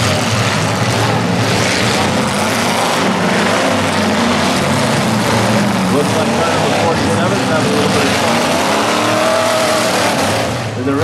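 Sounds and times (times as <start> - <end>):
car engines running: 0.0 - 11.0.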